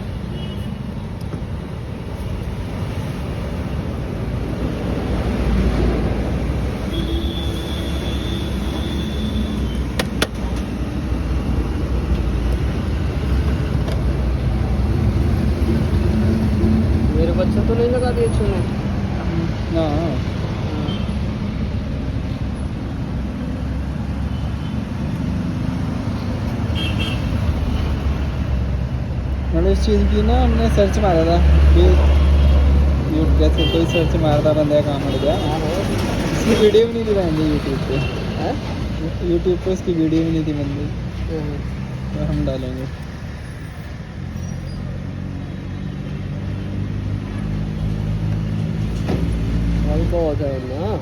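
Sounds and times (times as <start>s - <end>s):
vehicle engine and road rumble: 0.0s - 51.0s.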